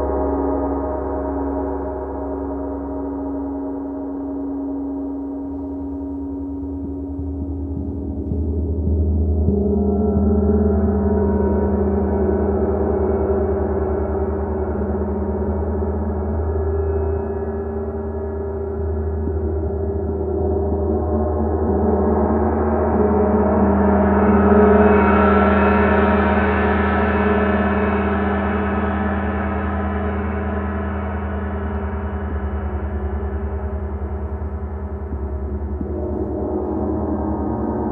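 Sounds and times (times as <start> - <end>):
deep hum: 2.5 - 37.9.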